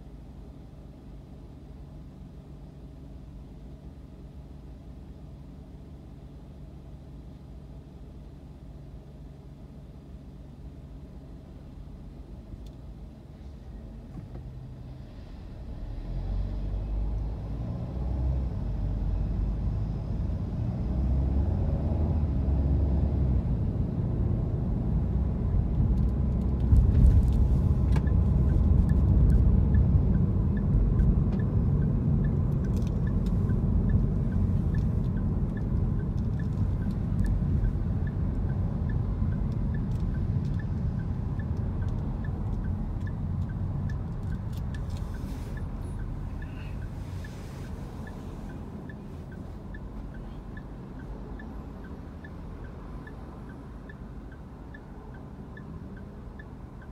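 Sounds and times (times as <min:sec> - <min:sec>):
road and engine rumble: 0:00.0 - 0:56.9.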